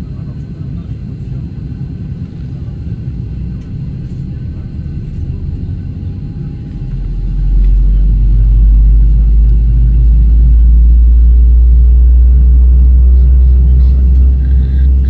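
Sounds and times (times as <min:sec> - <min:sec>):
deep rumble in airplane cabin: 0:00.0 - 0:15.0.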